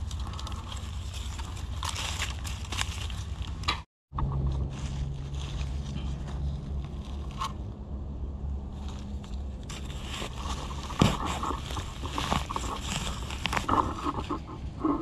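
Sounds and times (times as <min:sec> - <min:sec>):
dry leaves rustling and crackling: 0:00.0 - 0:07.8, 0:08.7 - 0:14.4
steady low hum: 0:00.0 - 0:15.0.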